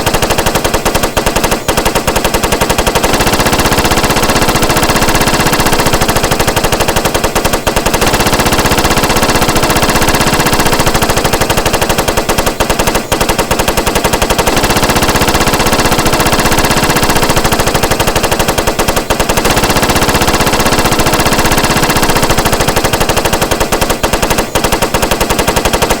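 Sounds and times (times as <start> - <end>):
machine gun firing bursts: 0.0 - 26.0.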